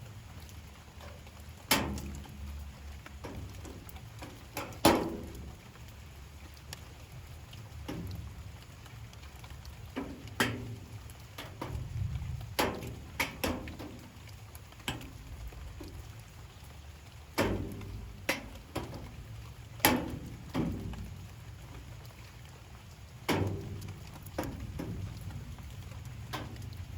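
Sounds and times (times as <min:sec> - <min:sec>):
low steady rumble: 0:00.0 - 0:26.9
raindrops tapping hard surface: 0:00.0 - 0:26.9.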